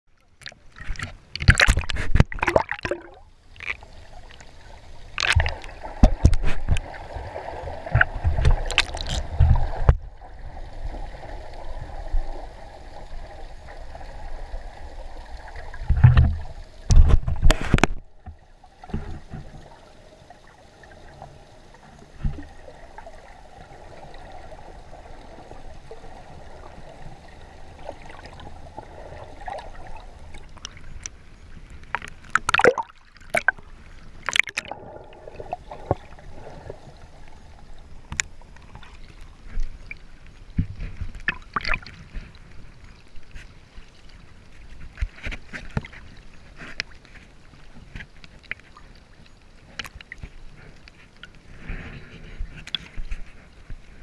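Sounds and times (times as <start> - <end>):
water splashing around camera: 0.1 - 54.0
muffled underwater hiss: 0.8 - 32.2, 33.5 - 54.0.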